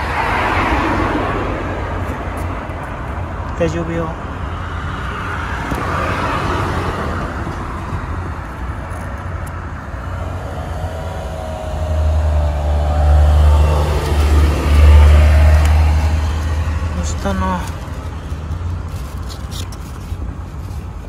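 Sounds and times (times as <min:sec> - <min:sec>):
vehicle passing: 0:00.0 - 0:03.4, 0:04.2 - 0:19.2
low rumble of cars: 0:00.0 - 0:21.0.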